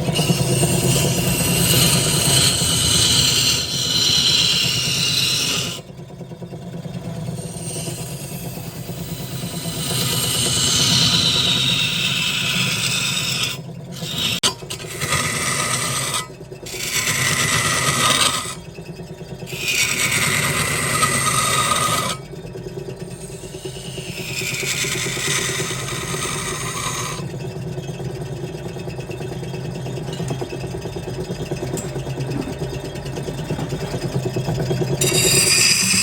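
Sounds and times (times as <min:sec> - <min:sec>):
lathe motor hum: 0:00.0 - 0:36.0
turning tool cutting spinning wood: 0:00.0 - 0:36.0.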